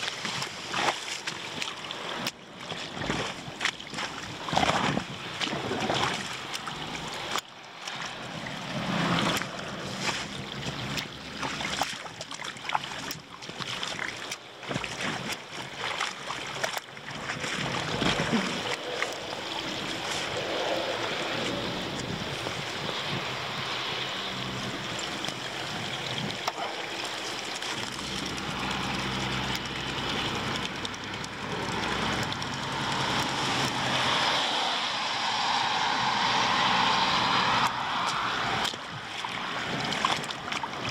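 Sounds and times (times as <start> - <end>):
sharp splashes and knocks: 0.0 - 40.9
water running into a drain: 0.0 - 40.9
vehicle engine: 1.9 - 11.9, 17.2 - 40.9.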